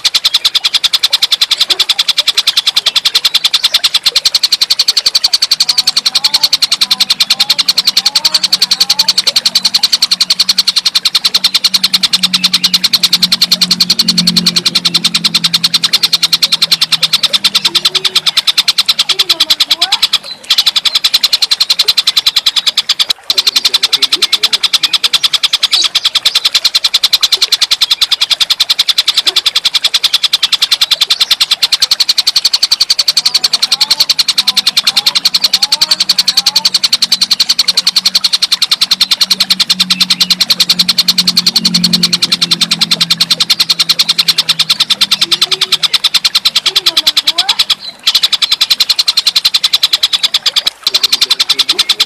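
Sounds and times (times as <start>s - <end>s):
faint bird chirps: 0.0s - 52.0s
kingfisher rattling call: 0.0s - 52.0s.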